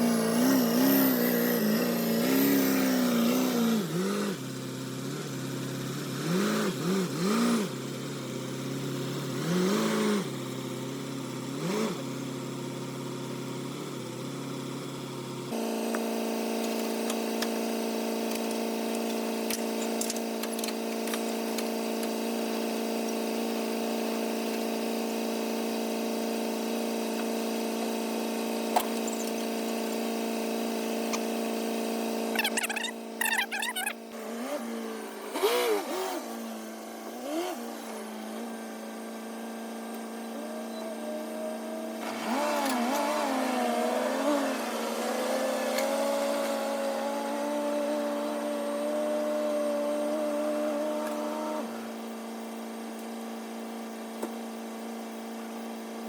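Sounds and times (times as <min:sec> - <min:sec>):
mower engine revving: 0:00.0 - 0:52.6.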